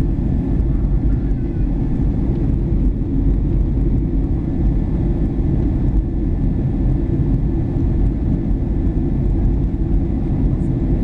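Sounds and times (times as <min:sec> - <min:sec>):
aircraft cabin engine rumble: 0:00.0 - 0:11.0.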